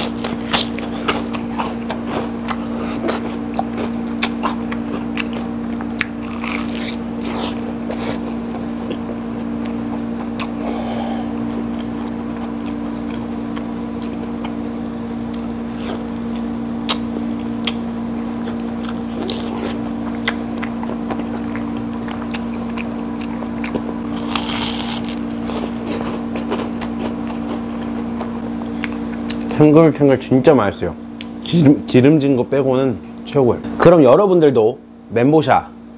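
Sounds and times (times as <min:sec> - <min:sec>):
chewing crunchy fried food: 0:00.0 - 0:29.6
low mechanical hum: 0:00.0 - 0:35.9.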